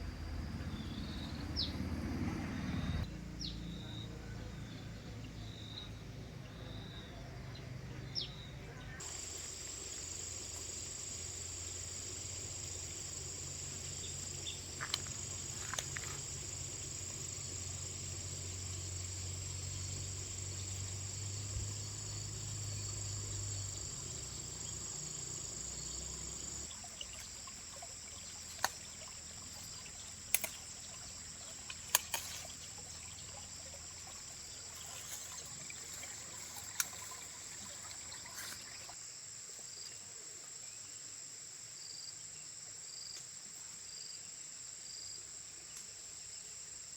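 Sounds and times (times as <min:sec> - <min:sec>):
insects chirping: 0:00.0 - 0:46.9.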